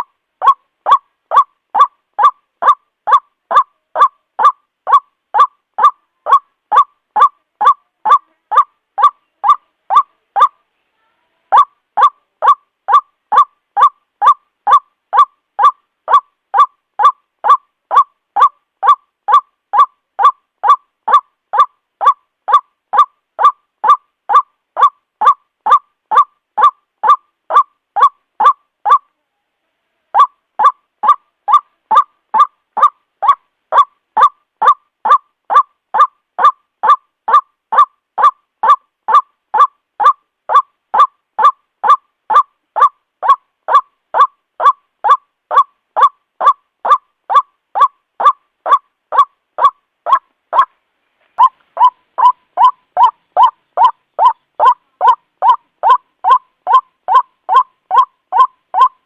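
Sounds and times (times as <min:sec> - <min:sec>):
waterhen calling: 0:00.0 - 0:10.6, 0:11.5 - 0:29.1, 0:30.1 - 0:59.0.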